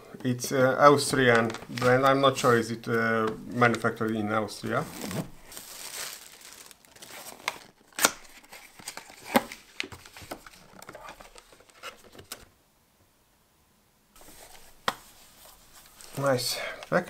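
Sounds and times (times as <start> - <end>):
crinkling: 0.8 - 12.5, 14.2 - 17.0.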